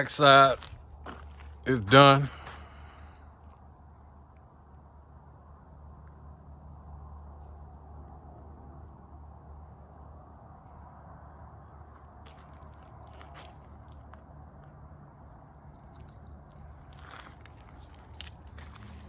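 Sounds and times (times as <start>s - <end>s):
insect chirping: 2.3s - 19.0s.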